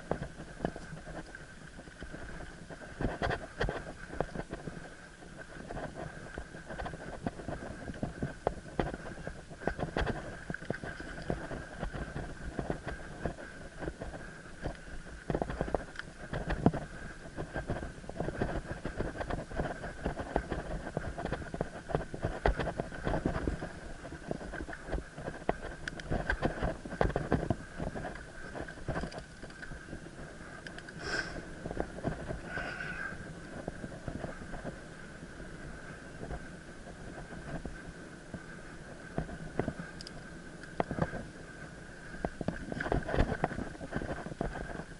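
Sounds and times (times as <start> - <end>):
bike rattling over trail: 0.0 - 44.9
wind on microphone: 0.0 - 44.9.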